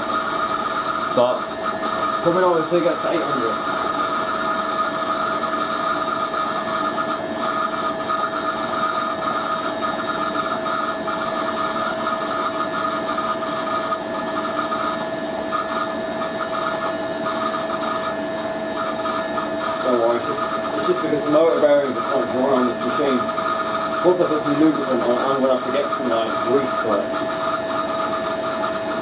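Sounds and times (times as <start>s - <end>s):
washing machine motor whine: 0.0s - 29.0s.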